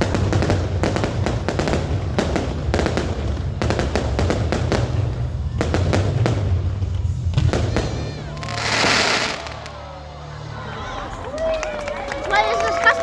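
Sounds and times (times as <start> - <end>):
fireworks and firecrackers banging: 0.0 - 10.5.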